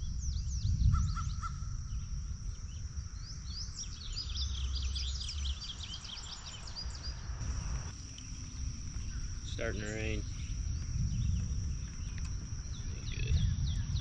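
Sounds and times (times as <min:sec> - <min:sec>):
birds chirping: 0:00.0 - 0:14.0
high-pitched insect drone: 0:00.0 - 0:14.0
low rumble: 0:00.0 - 0:14.0.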